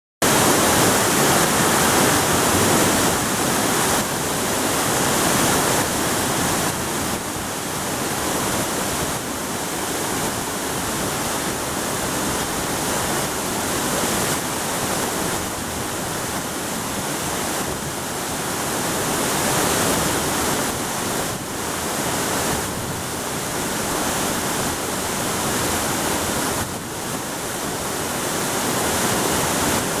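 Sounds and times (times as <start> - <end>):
small waterfall splashing: 0.2 - 30.0.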